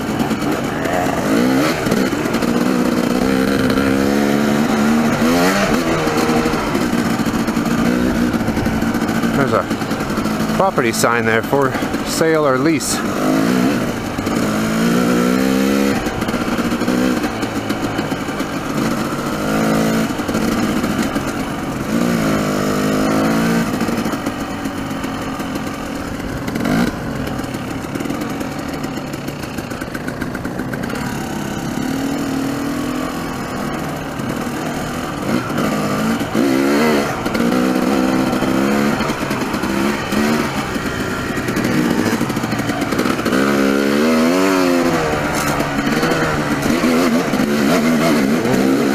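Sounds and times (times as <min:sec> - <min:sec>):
dirt bike engine revving: 0:00.0 - 0:48.9
steady rushing noise: 0:00.0 - 0:48.9.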